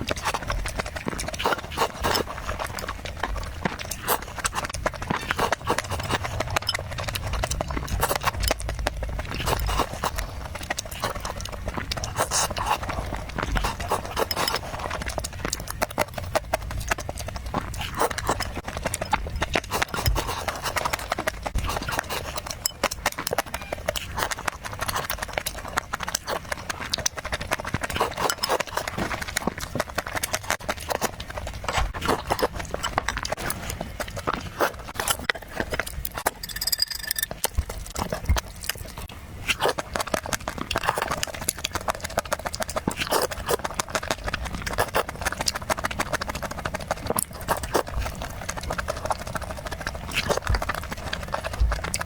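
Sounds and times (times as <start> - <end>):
person chewing and smacking food: 0.0 - 52.0.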